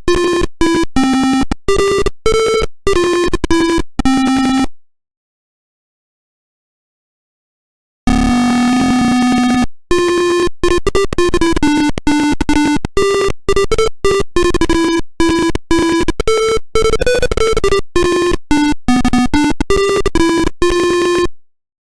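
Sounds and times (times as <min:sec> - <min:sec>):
buzzer playing beeping melody: 0:00.1 - 0:04.6, 0:08.1 - 0:21.3.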